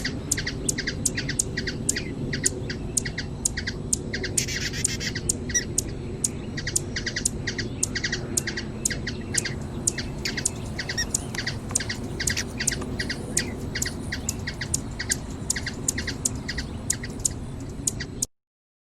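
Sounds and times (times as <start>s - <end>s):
hummingbird chirping: 0.0s - 18.2s
low background noise: 0.0s - 18.3s.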